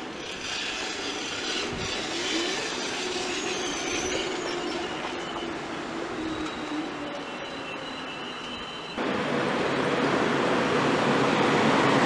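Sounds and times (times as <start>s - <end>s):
faint train whine: 0.0s - 12.0s
train wheel and running noise: 0.0s - 12.0s.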